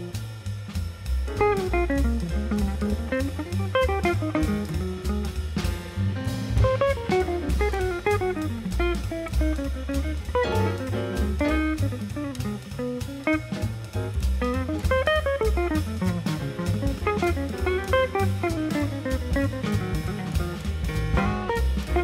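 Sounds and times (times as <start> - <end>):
steady drum beat: 0.0 - 22.0
plucked guitar melody: 1.3 - 22.0.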